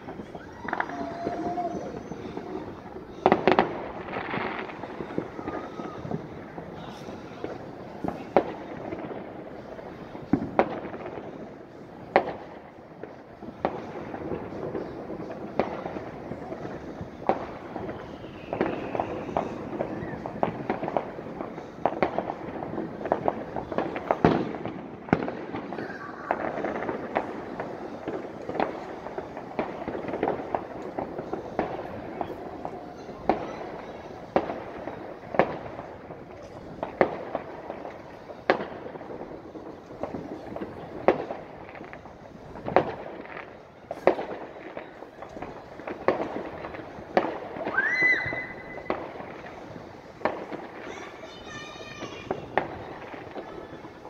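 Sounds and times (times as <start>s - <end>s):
distant firework bangs: 0.0s - 54.0s
fireworks crackling and popping: 0.0s - 54.0s.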